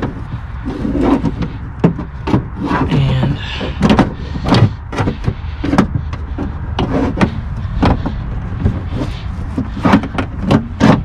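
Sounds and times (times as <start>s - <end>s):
steady low hum: 0.0s - 11.0s
car door mechanism knocking: 1.1s - 8.8s, 9.8s - 11.0s.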